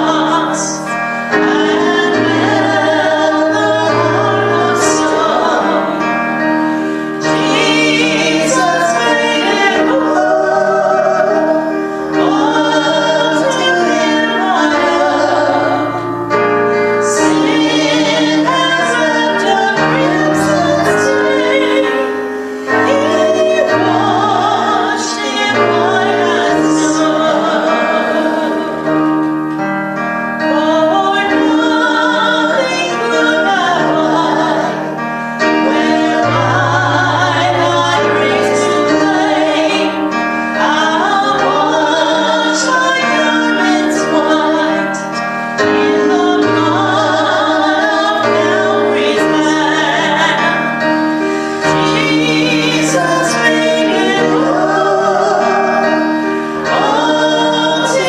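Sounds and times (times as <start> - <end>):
singers singing a hymn: 0.0 - 58.0
sustained instrumental chords: 0.0 - 58.0.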